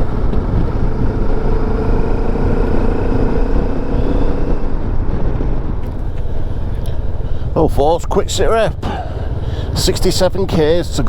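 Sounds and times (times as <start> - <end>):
motorcycle engine drone: 0.0 - 10.8
wind rush on microphone: 0.0 - 11.0.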